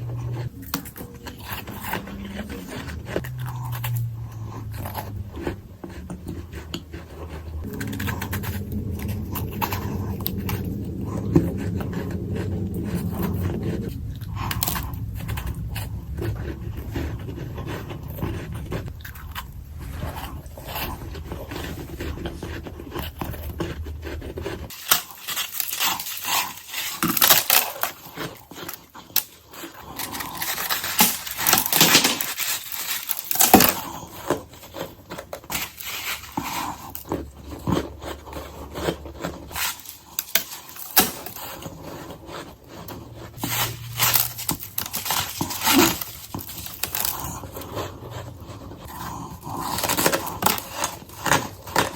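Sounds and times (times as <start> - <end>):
ice being chewed: 0.0 - 51.9
low background hum: 0.0 - 51.9.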